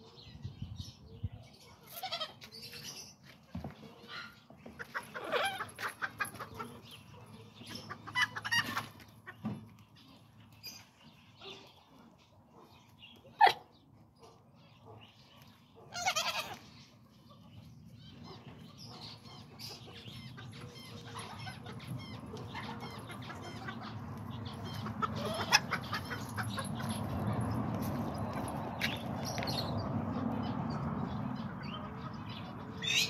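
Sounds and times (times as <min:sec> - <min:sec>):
chickens clucking: 0:03.3 - 0:15.0, 0:15.7 - 0:33.0.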